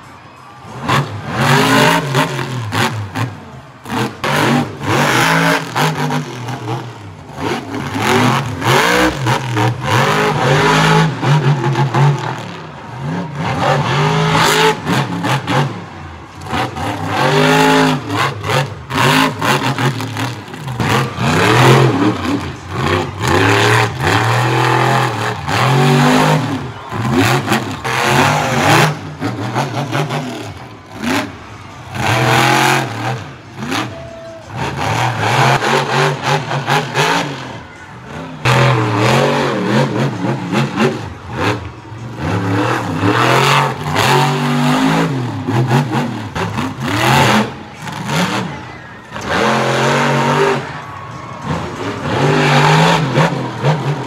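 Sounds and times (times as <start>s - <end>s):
monster truck engines revving: 0.0s - 54.0s.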